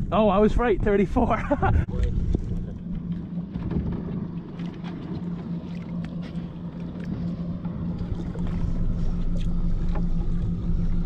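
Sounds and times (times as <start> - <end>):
boat motor idling: 2.0 - 11.0.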